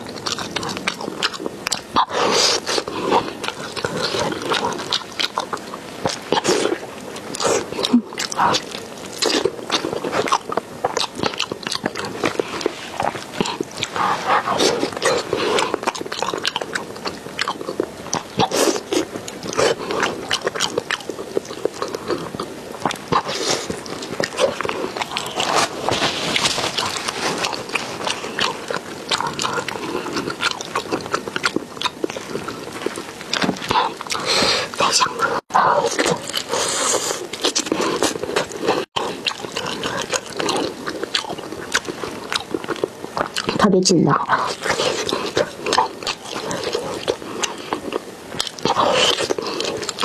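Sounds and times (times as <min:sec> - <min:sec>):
wet chewing and lip-smacking: 0:00.0 - 0:50.0.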